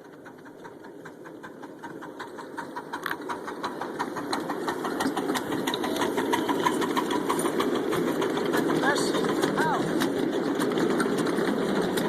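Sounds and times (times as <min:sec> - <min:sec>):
miniature train running on track: 0:00.0 - 0:12.0.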